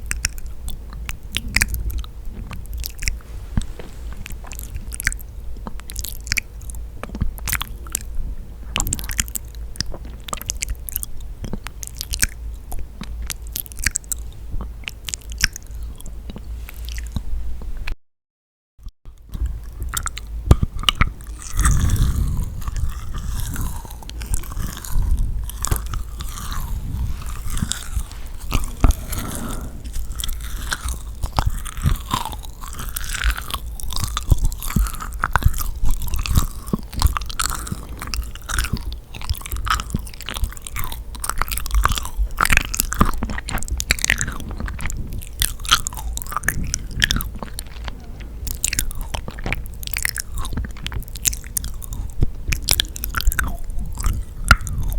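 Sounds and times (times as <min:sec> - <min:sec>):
close chewing of sticky cookie: 0:00.0 - 0:17.3, 0:19.1 - 0:54.9.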